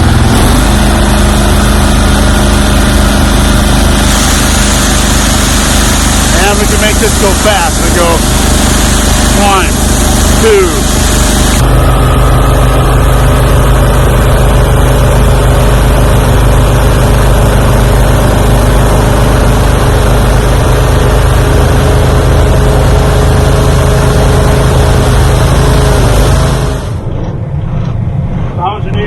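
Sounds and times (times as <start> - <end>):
harvester engine droning: 0.0 - 29.0.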